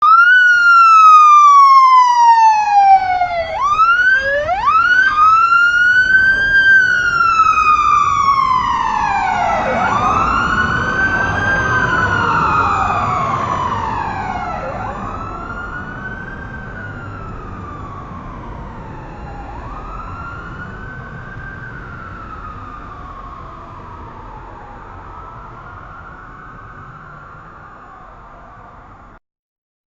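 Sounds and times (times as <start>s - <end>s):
police siren wailing: 0.0s - 29.2s.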